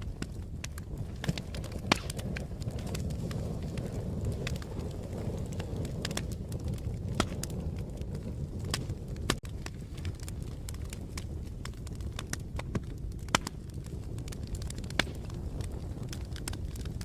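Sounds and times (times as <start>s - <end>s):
fire pops and snaps: 0.0s - 17.0s
low rumble of burning wood: 0.0s - 17.0s.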